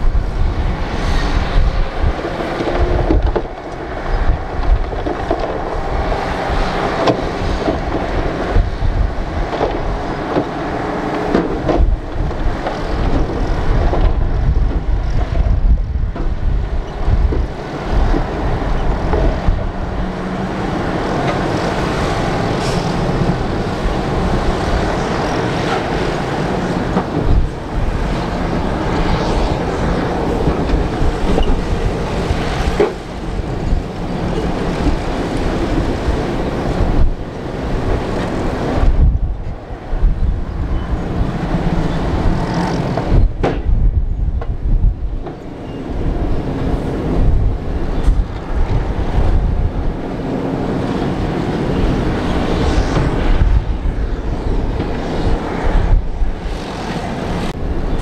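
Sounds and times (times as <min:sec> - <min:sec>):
diesel engines under load: 0:00.0 - 0:58.0.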